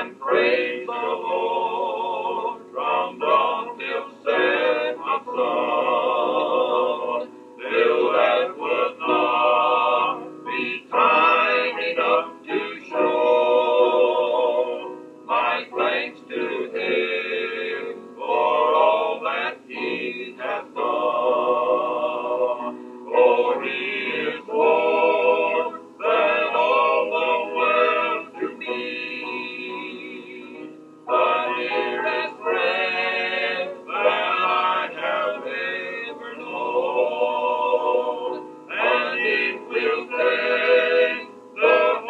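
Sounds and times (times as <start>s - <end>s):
male quartet singing in harmony: 0.0s - 42.0s.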